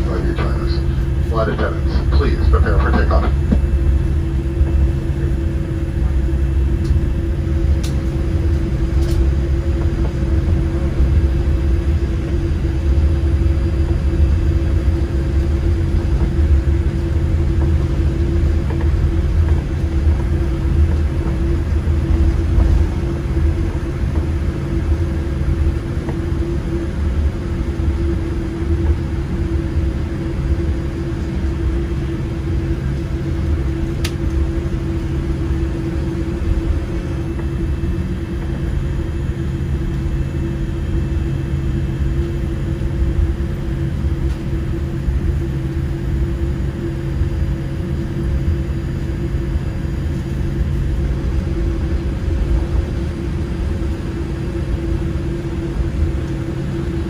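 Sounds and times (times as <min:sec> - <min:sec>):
airplane cabin engine rumble: 0:00.0 - 0:57.0
constant hum: 0:00.0 - 0:57.0.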